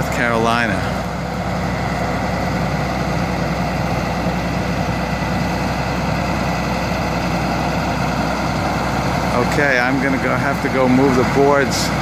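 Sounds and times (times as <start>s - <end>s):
large engine running: 0.0s - 12.0s.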